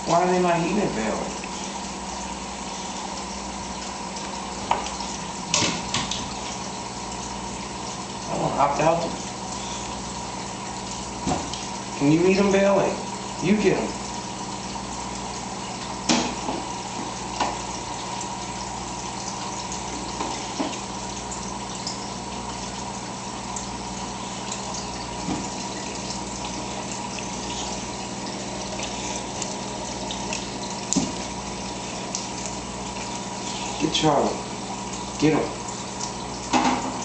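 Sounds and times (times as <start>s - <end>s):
pump humming: 0.0s - 37.0s
water trickling and splashing: 0.0s - 37.0s.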